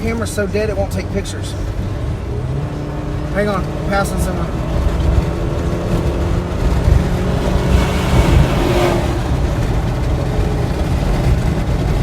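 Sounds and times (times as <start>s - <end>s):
car cabin road and engine rumble: 0.0s - 12.0s
overtaking vehicle rush: 0.0s - 12.0s.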